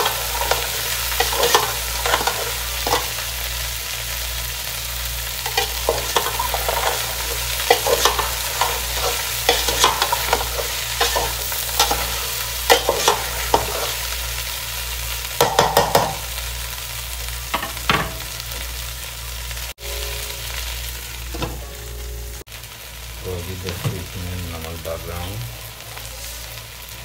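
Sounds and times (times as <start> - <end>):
okra sizzling in a pot: 0.0 - 27.0.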